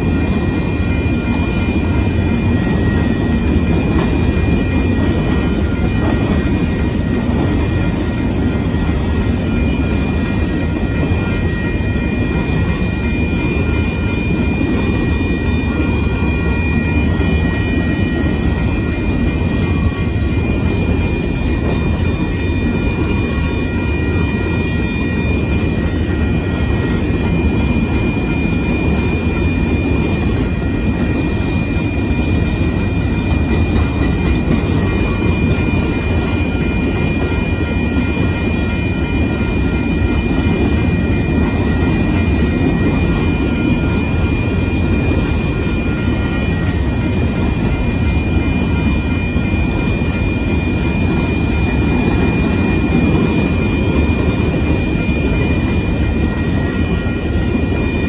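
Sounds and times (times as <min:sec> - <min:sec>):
high ringing tone: 0:00.0 - 0:58.0
train wheels rumbling on rail: 0:00.0 - 0:58.0.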